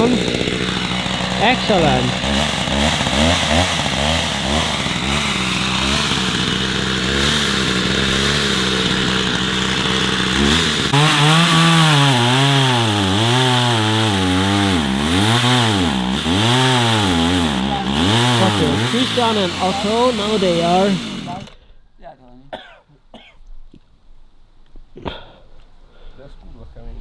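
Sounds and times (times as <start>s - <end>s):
chainsaw engine running: 0.0s - 21.7s.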